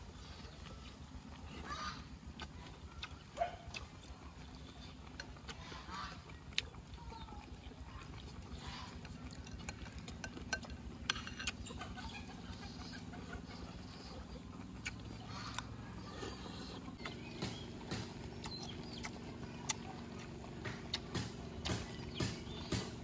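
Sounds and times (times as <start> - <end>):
person chewing and crunching: 0.0 - 23.0.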